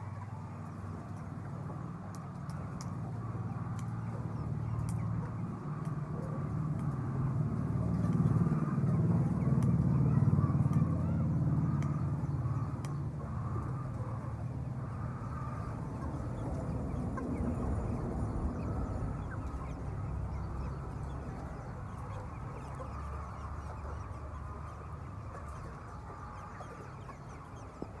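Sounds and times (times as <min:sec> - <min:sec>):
chickens clucking: 0:00.0 - 0:28.0
steady low rumble: 0:00.7 - 0:28.0.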